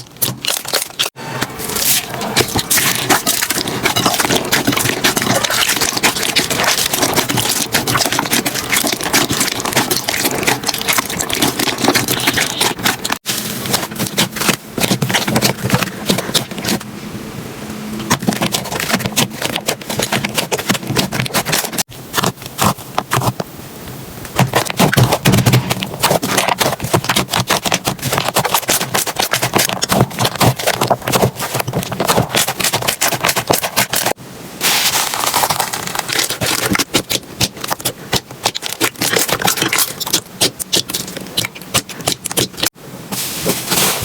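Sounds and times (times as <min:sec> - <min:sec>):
crunchy slime crackling: 0:00.0 - 0:16.8, 0:18.1 - 0:23.4, 0:24.4 - 0:42.7.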